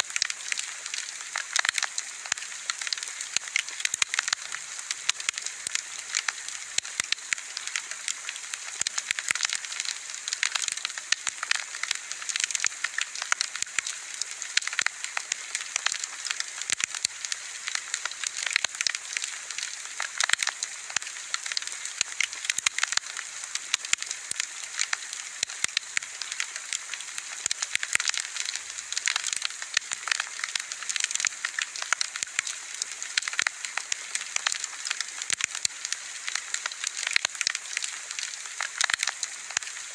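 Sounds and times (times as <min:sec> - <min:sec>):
bonfire crackling: 0:00.1 - 0:39.9.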